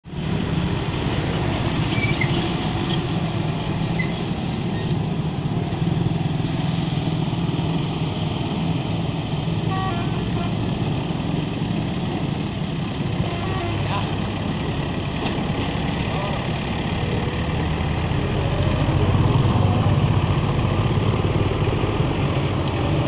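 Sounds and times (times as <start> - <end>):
diesel tractor engines running: 0.0 - 23.0.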